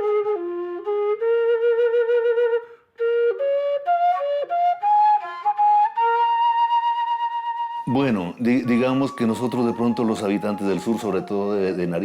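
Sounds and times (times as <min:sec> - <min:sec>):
solo flute melody: 0:00.0 - 0:12.0.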